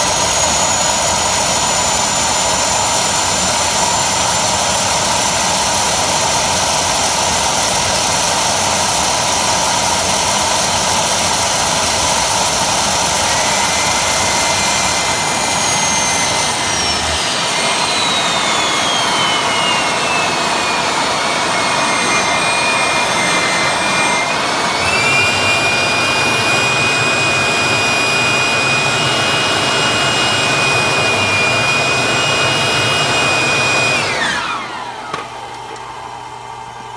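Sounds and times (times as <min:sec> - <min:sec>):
jet engine rush and whine: 0:00.0 - 0:36.9.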